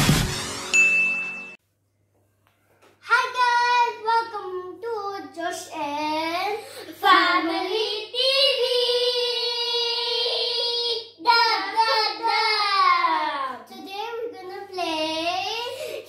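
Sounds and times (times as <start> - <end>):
child singing high: 3.0 - 16.0.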